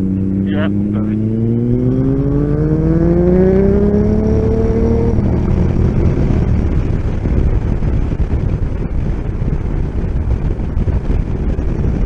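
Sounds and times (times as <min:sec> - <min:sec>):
motorcycle engine accelerating: 0:00.0 - 0:12.0
wind rushing on microphone: 0:00.0 - 0:12.0.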